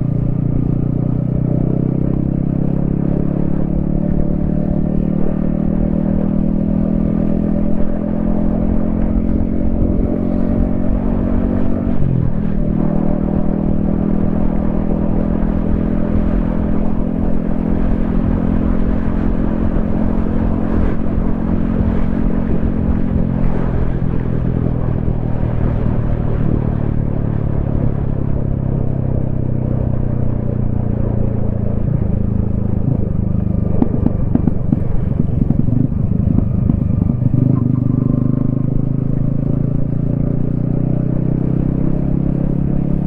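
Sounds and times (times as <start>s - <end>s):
motorcycle engine running: 0.0s - 43.0s
wind rumble on microphone: 0.0s - 43.0s.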